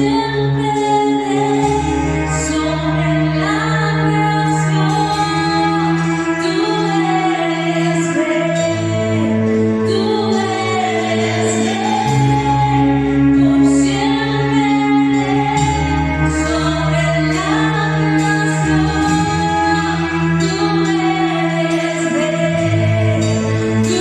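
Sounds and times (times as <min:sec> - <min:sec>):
sustained chords: 0:00.0 - 0:24.0
women singing: 0:00.0 - 0:24.0.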